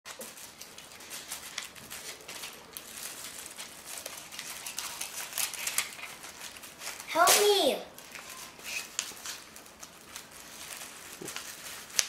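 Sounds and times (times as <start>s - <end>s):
paper envelope rustling: 0.1s - 12.0s.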